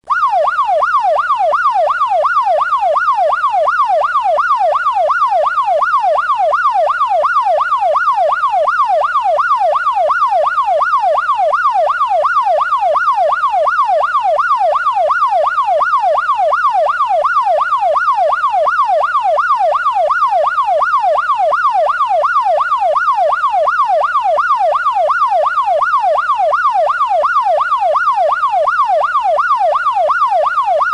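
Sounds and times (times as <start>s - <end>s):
police siren yelping: 0.1s - 30.9s.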